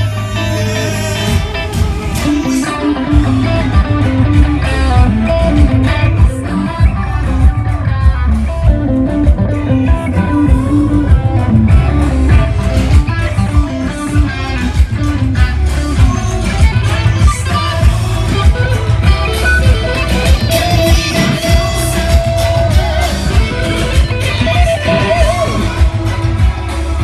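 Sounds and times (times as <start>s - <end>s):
bass line: 0.0s - 27.0s
electric guitar: 0.0s - 27.0s
steady drum beat: 1.1s - 27.0s.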